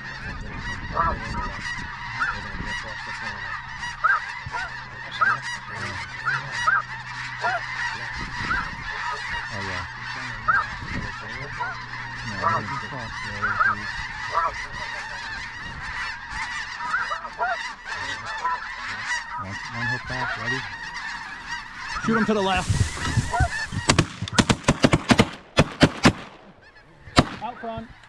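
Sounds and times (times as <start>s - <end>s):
flock of geese honking: 0.0s - 28.0s.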